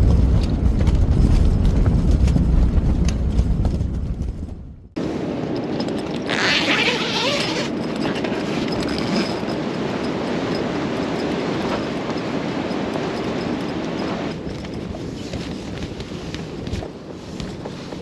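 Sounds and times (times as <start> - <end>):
blizzard wind rushing: 0.0 - 18.0.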